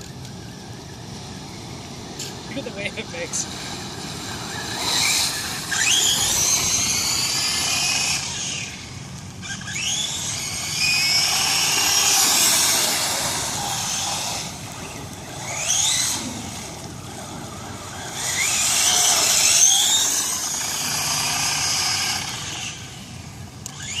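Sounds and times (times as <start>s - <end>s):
toy truck motor whining: 3.3s - 24.0s.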